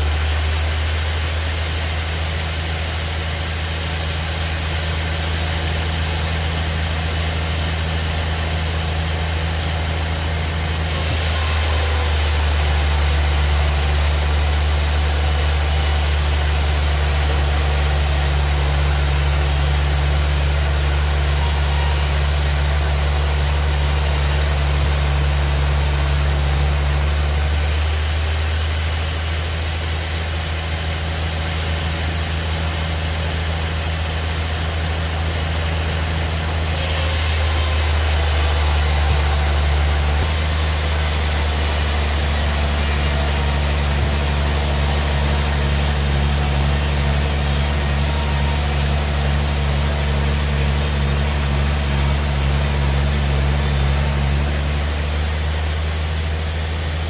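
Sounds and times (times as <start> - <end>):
saw blade cutting log: 0.0 - 29.8, 31.0 - 57.0
bandsaw humming: 0.0 - 57.0.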